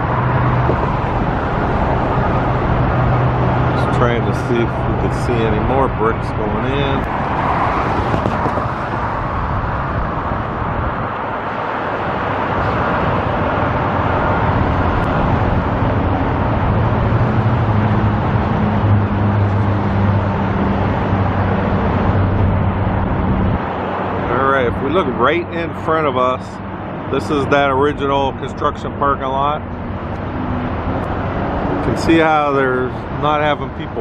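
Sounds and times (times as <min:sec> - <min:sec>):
road traffic: 0:00.0 - 0:34.0
vehicle engine hum: 0:00.0 - 0:34.0.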